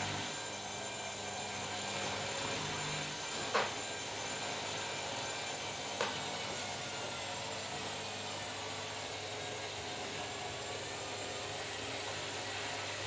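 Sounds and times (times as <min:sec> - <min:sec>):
washing machine whirring: 0:00.0 - 0:13.0.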